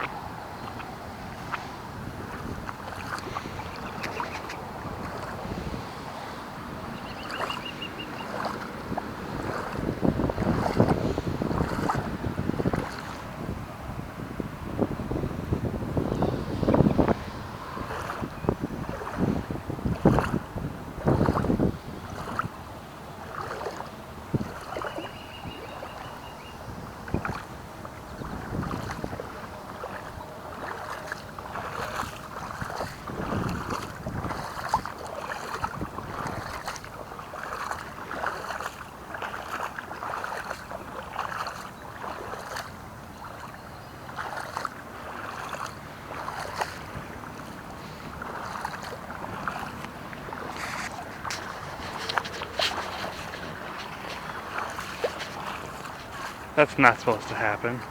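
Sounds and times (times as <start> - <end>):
floodwater sloshing and splashing: 0.0 - 57.9.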